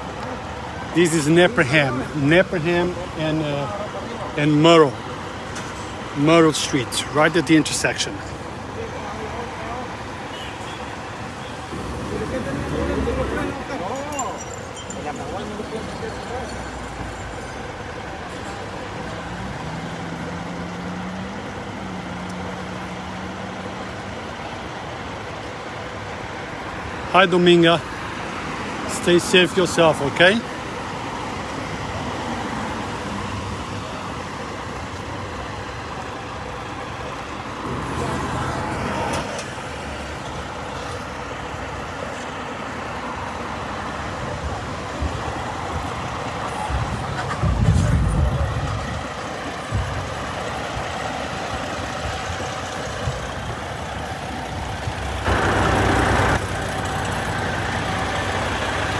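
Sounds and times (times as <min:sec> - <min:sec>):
street traffic: 0:00.0 - 0:58.9
vehicle engine humming: 0:00.0 - 0:58.9.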